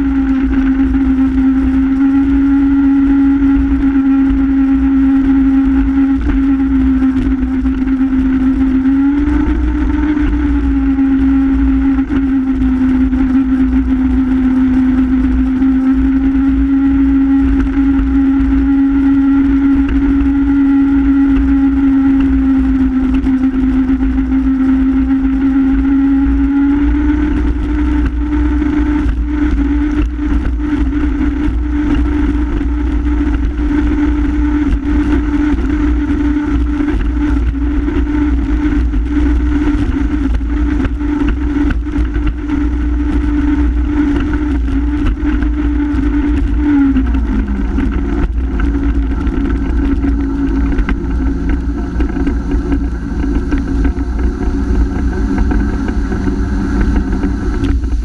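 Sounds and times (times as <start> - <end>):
jet ski engine revving high: 0.0 - 58.0.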